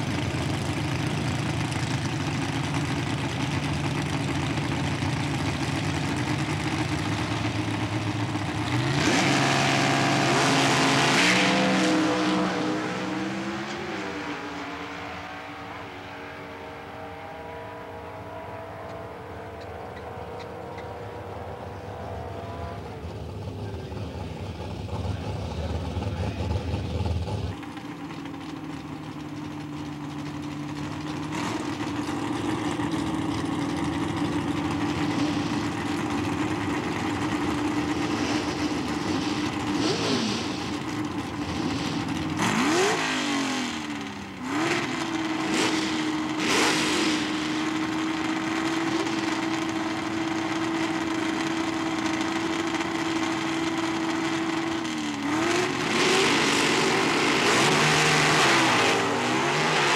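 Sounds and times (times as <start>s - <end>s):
drag car engine revving: 0.0s - 59.9s.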